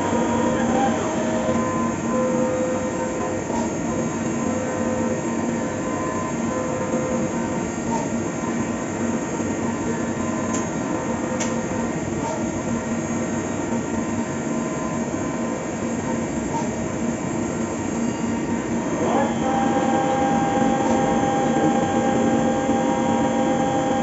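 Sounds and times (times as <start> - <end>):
milling machine humming: 0.0 - 24.0.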